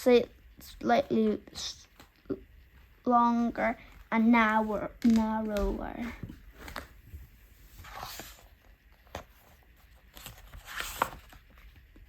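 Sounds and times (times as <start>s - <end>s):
book pages rustling: 0.9s - 12.0s.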